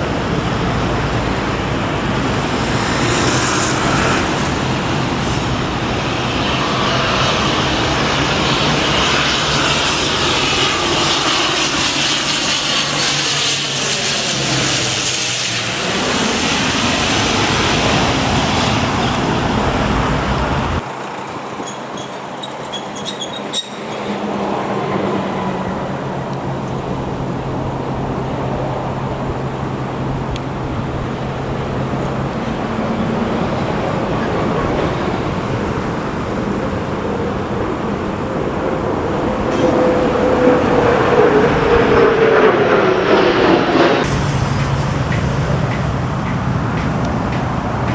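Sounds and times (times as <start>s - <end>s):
plane whooshing overhead: 0.0s - 47.9s
turboprop plane droning: 0.0s - 47.9s.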